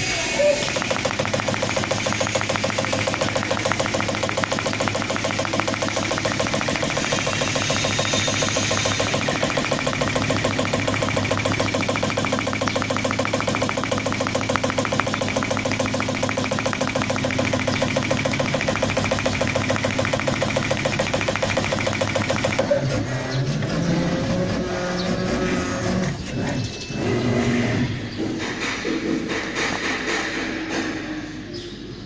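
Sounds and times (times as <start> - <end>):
vibrating knife machine chatter: 0.0 - 30.8
low machine hum: 0.1 - 28.7.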